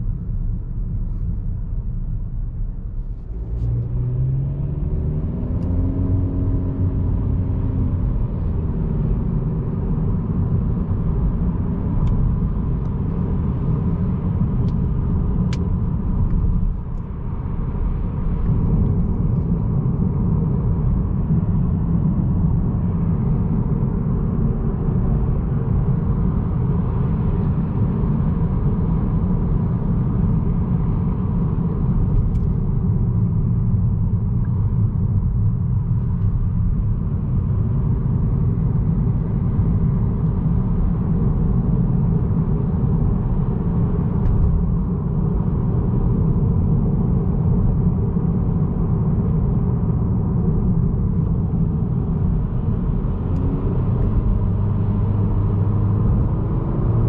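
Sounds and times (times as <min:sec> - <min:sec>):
road and engine rumble in car cabin: 0:00.0 - 0:57.0.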